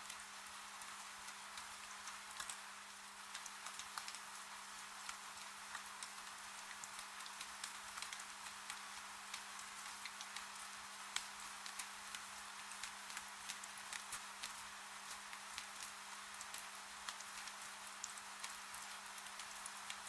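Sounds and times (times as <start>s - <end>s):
raindrops ticking on glass: 1.3s - 2.6s, 3.2s - 20.0s.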